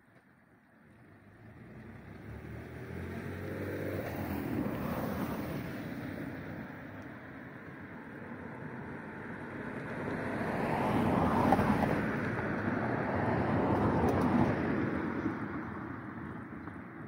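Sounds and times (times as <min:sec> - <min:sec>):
car passing by: 0:00.9 - 0:16.8.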